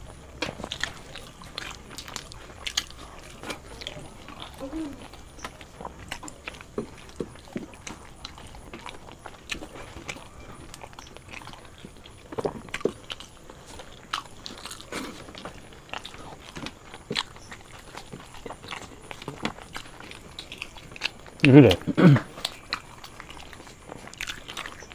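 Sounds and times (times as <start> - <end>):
chewing and mouth sounds: 0.0 - 24.9.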